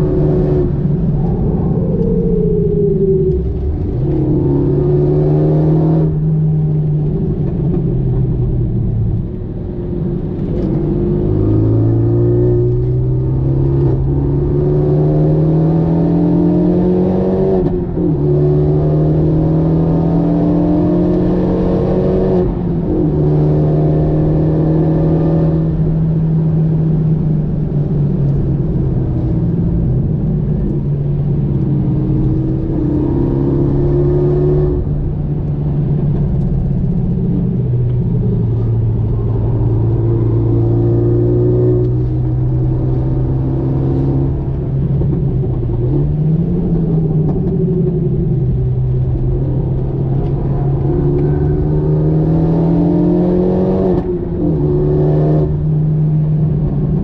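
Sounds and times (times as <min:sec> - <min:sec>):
tyre and road noise: 0:00.0 - 0:19.8, 0:20.4 - 0:57.0
car engine drone: 0:00.0 - 0:57.0.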